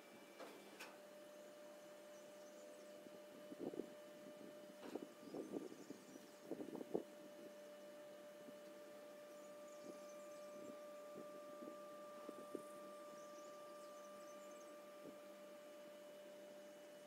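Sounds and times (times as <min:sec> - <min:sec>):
machinery electrical hum: 0:00.0 - 0:17.0.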